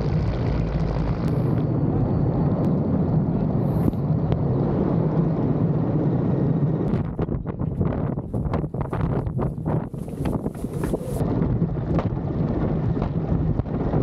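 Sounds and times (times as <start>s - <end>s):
helicopter low rumble: 0.0s - 14.0s.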